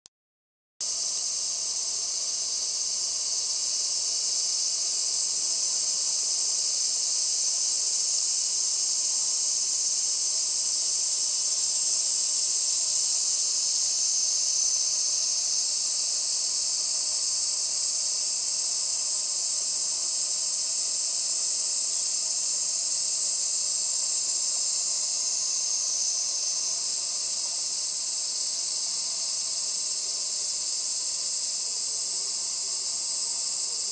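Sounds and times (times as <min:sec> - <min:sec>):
cicadas buzzing: 0:00.8 - 0:33.9.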